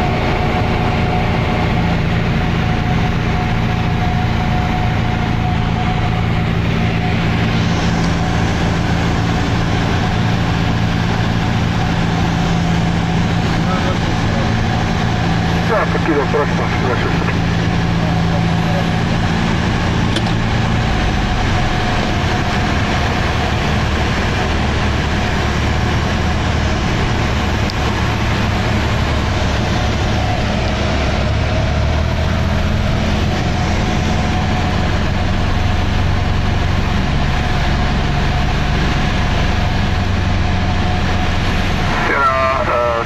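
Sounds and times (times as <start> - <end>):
light aircraft engine drone: 0.0 - 43.0.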